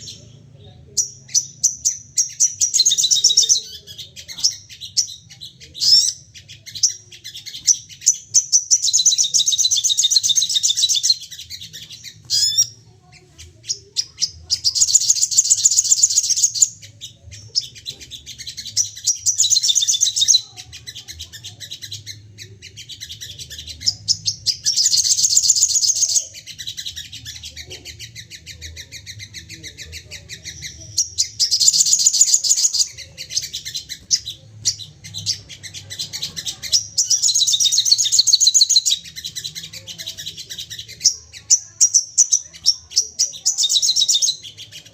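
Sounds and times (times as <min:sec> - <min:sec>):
bird rapid high chattering: 0:00.0 - 0:44.9.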